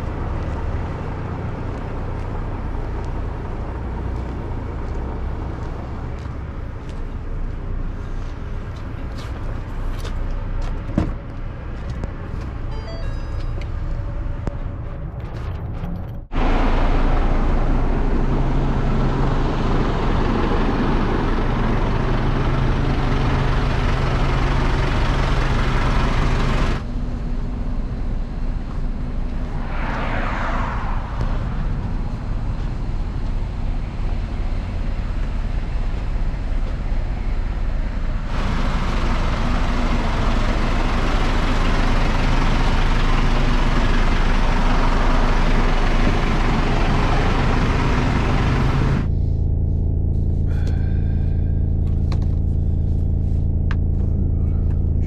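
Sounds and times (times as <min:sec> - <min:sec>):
road noise: 0:00.0 - 0:55.0
truck engine running: 0:00.0 - 0:55.0.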